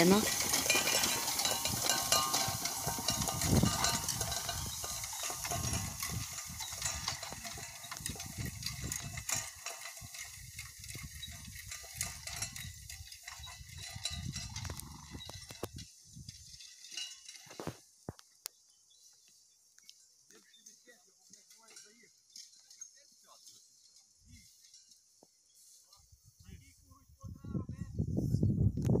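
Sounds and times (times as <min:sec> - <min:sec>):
wheel rake clanking and rattling: 0:00.0 - 0:17.9, 0:20.7 - 0:26.0.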